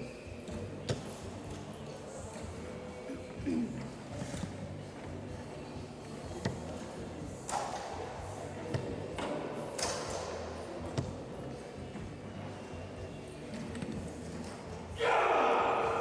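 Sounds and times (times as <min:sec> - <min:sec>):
murmur of voices: 0:00.0 - 0:16.0.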